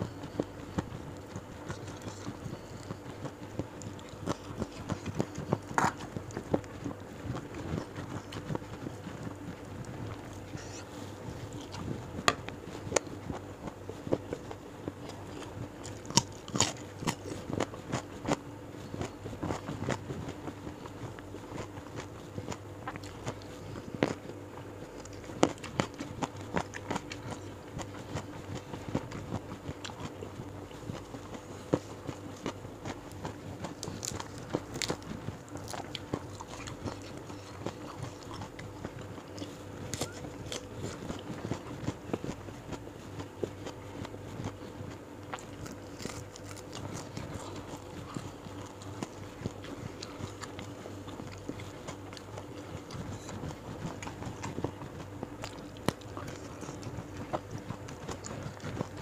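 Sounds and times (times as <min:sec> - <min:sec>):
faint steady hum: 0:00.0 - 0:59.0
person chewing and crunching: 0:00.0 - 0:59.0.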